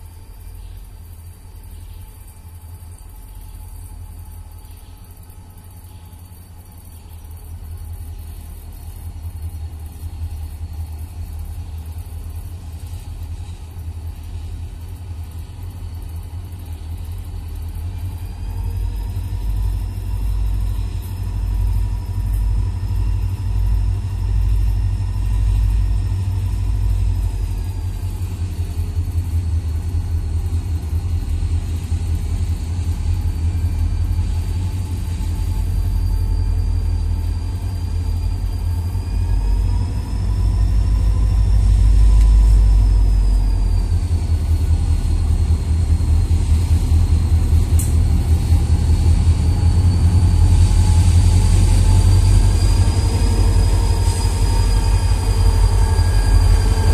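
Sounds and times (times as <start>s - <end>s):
diesel locomotive engines rumbling: 0.0s - 56.9s
thin high whine: 0.0s - 56.9s.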